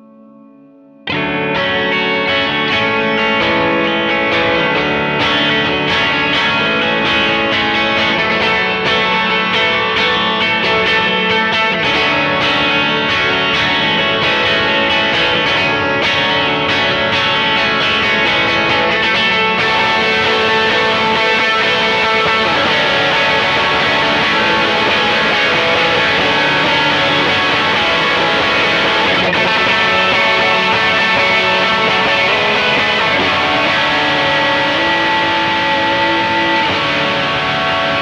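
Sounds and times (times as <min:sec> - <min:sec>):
distorted electric guitar with reverb: 0:00.0 - 0:38.0
faint held guitar tone: 0:00.0 - 0:38.0.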